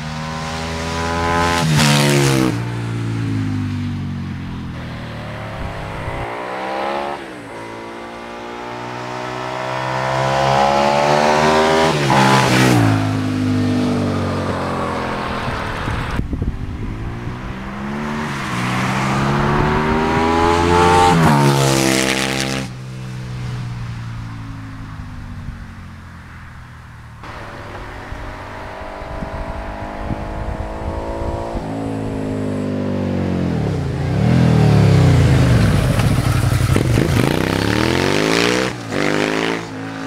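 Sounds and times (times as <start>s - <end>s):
motorcycle accelerating past: 0.0s - 24.2s, 27.2s - 40.0s.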